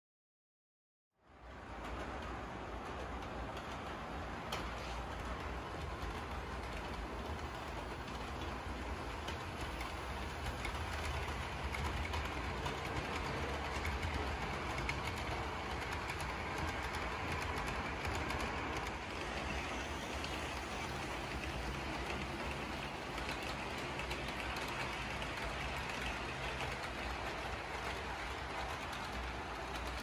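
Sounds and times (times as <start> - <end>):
model train whirring and rattling: 1.4 - 30.0.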